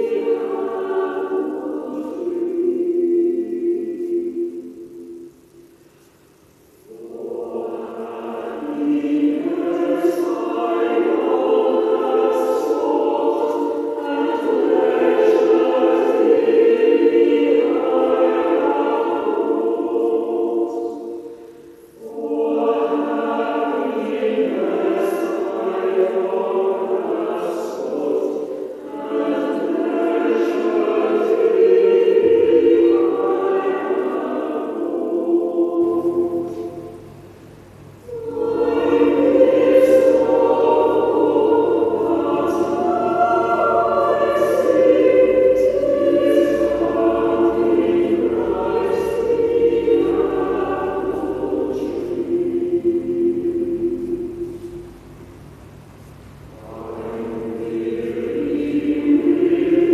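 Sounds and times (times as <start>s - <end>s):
choir singing a sacred piece: 0.0s - 6.0s, 6.8s - 55.8s, 56.4s - 59.9s.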